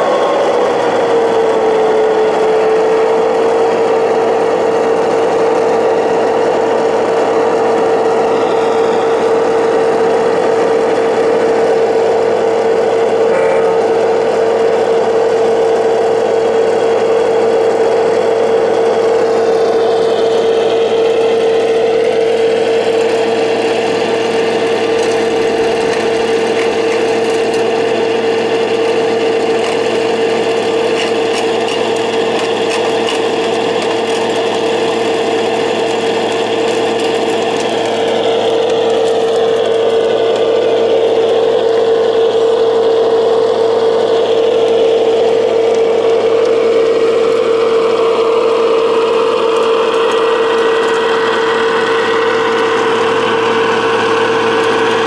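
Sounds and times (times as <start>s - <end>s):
small electric motors whining: 0.0s - 55.0s.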